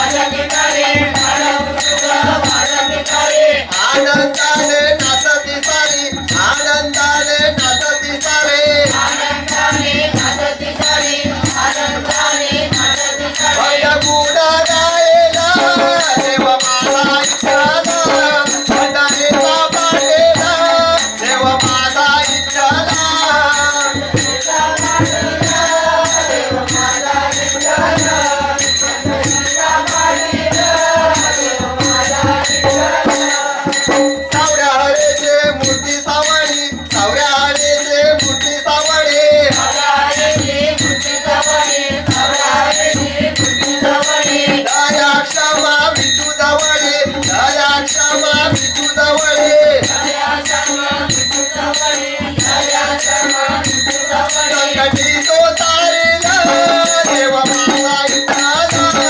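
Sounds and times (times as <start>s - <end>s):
jingling percussion: 0.0s - 59.0s
voices singing devotional song: 0.0s - 59.0s.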